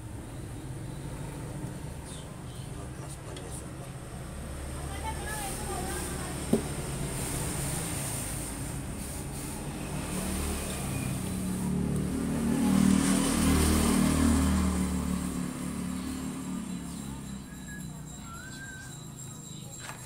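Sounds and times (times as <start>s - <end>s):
vehicle engine passing by: 0.0s - 19.4s.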